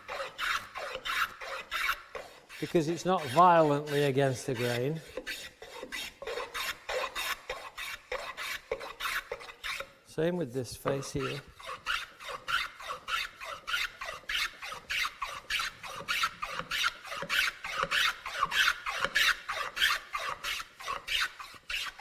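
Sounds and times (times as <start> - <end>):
hand plane shaving wood: 0.0 - 9.9, 10.9 - 22.0.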